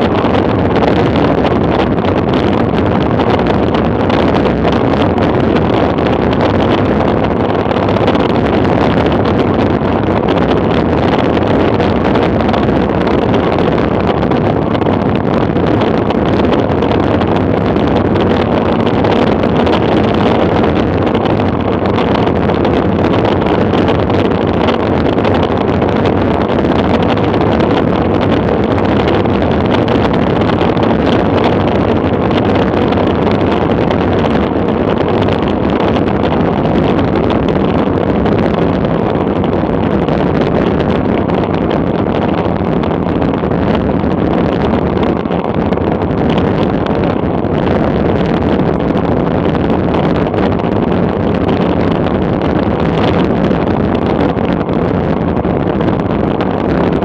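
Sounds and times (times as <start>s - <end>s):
bicycle road noise: 0.0s - 57.0s
wind rushing over microphone: 0.0s - 57.0s.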